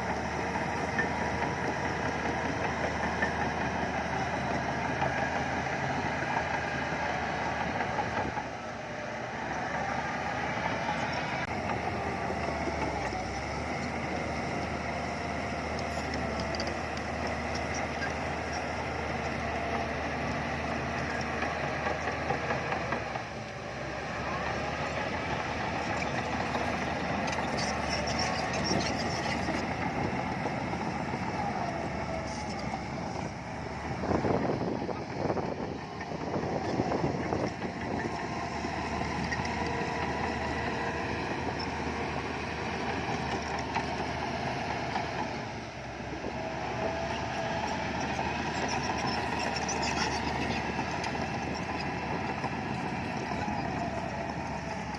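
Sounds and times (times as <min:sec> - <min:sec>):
heavy diesel engine din: 0:00.0 - 0:54.9.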